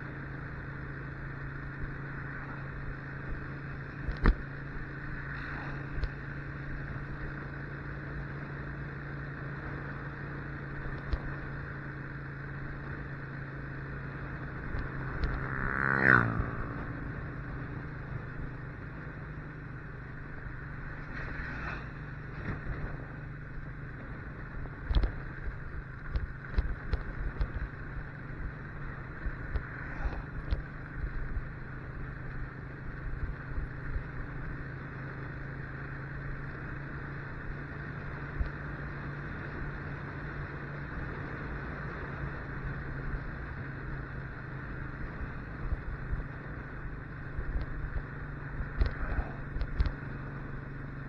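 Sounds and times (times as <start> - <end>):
motorcycle engine cruising: 0.0 - 51.0.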